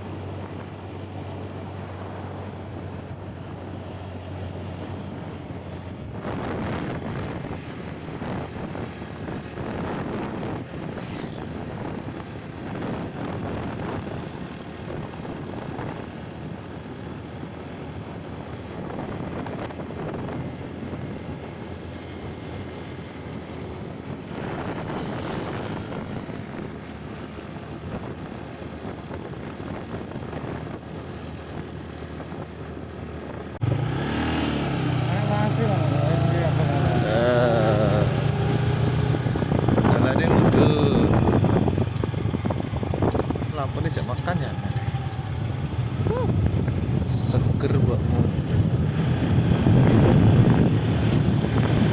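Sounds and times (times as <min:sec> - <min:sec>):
moving vehicle noise: 0:00.0 - 0:51.9
wind buffeting microphone: 0:00.0 - 0:51.9.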